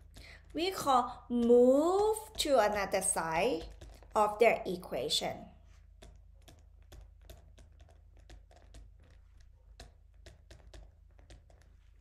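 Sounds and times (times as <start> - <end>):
faint irregular clicks: 0.0 - 4.4, 5.6 - 12.0.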